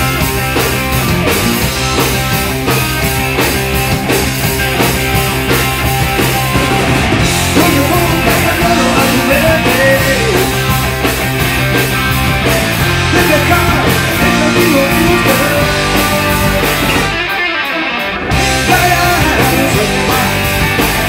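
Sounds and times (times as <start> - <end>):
drum kit beat: 0.0 - 17.4, 18.3 - 21.0
electric bass: 0.0 - 17.4, 18.2 - 21.0
electric guitar: 0.0 - 21.0.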